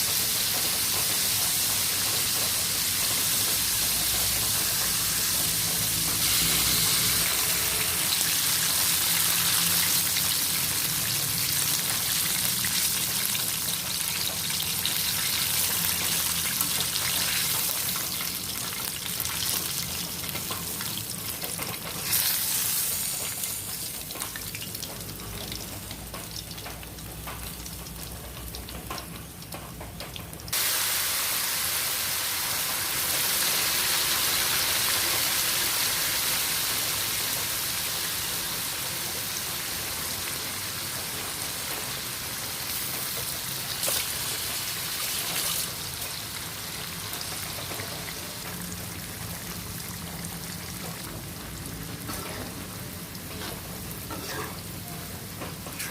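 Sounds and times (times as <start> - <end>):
food sizzling in oil: 0.0 - 29.5, 30.5 - 55.9.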